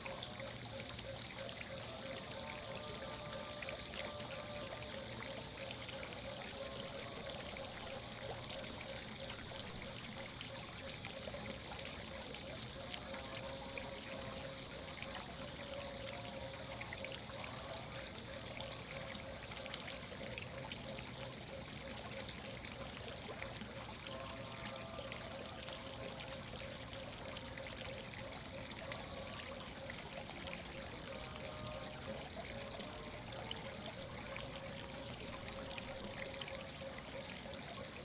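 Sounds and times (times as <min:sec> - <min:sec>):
faint steady tone: 0:00.0 - 0:38.0
water running and pouring: 0:00.0 - 0:38.0.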